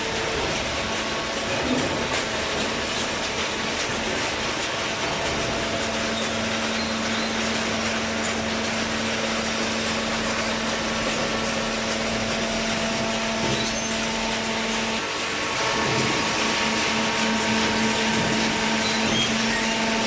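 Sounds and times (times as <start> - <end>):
hydraulic motor and pump humming: 0.0 - 20.0.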